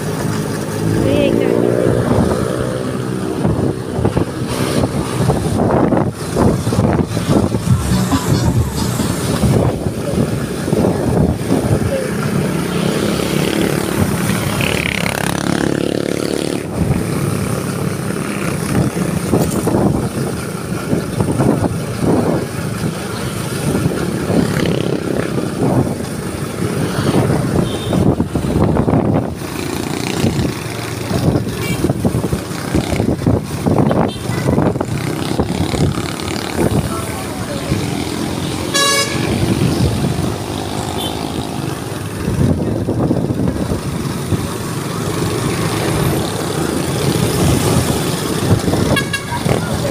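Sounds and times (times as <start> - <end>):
motorcycle engine running: 0.0 - 49.9
road and wind noise: 0.0 - 49.9
street traffic: 0.0 - 49.9.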